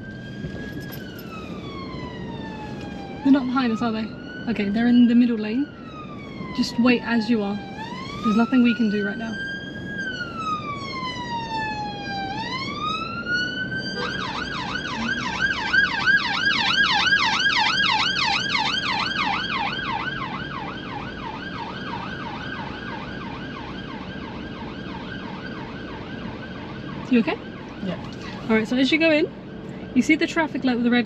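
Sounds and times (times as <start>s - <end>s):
police siren wailing and yelping: 0.0s - 31.0s.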